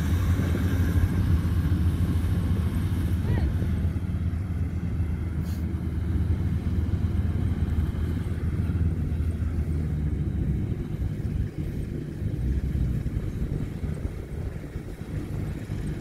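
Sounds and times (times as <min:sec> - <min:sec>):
combine harvester rumbling: 0:00.0 - 0:16.0.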